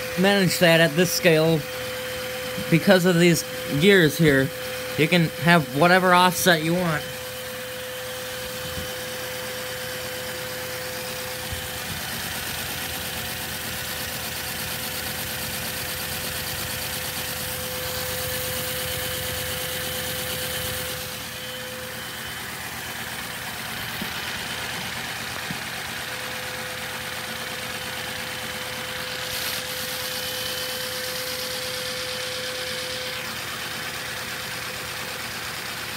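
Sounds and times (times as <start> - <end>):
vacuum cleaner humming: 0.0 - 35.9.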